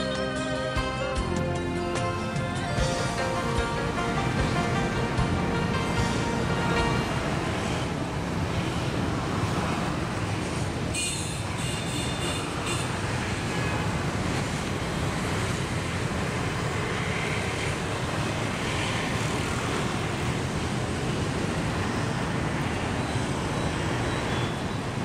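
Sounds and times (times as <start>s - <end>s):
city traffic: 0.0s - 25.0s.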